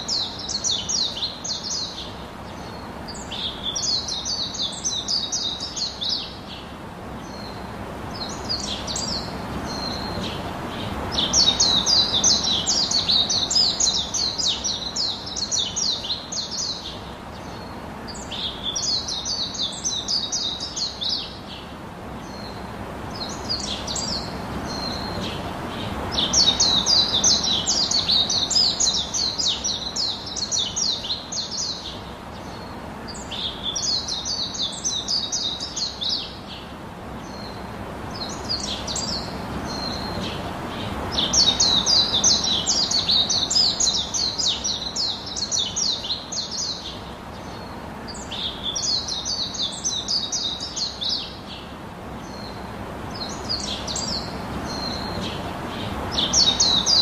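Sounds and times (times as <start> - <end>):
bird chirping: 0.0 - 22.6, 23.2 - 37.6, 38.2 - 57.0.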